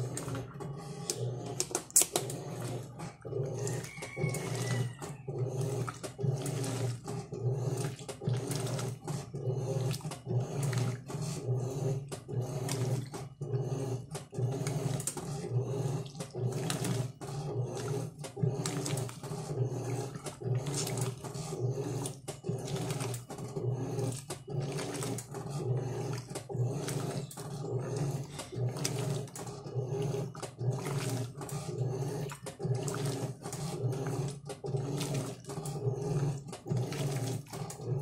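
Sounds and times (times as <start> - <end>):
washing machine agitating: 0.0 - 38.0.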